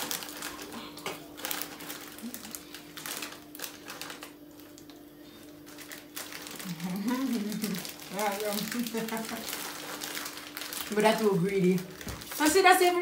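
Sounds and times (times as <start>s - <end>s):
crunching of snacks being chewed: 0.0s - 12.6s
plastic snack bags rustling: 0.0s - 13.0s.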